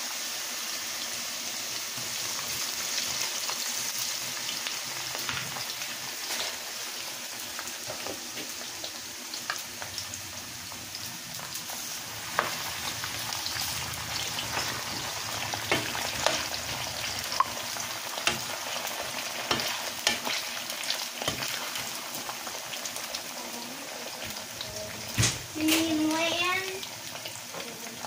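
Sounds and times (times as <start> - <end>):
fries sizzling and crackling in oil: 0.0 - 28.0.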